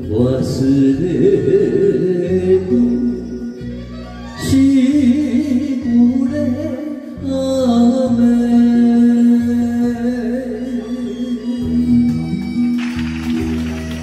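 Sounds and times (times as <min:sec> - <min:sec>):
man singing with vibrato: 0:00.0 - 0:12.0
karaoke backing track: 0:00.0 - 0:14.0.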